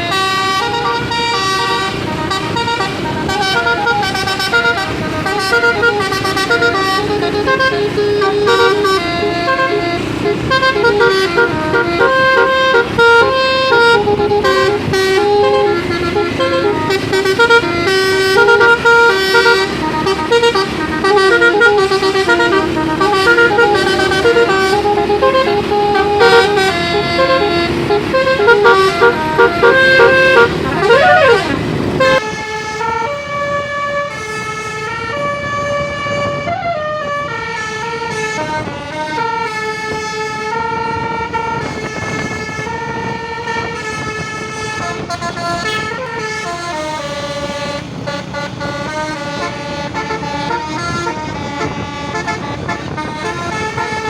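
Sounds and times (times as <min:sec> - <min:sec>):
musical bus air horns: 0:00.0 - 0:54.0
siren-like horn sweep: 0:00.0 - 0:54.0.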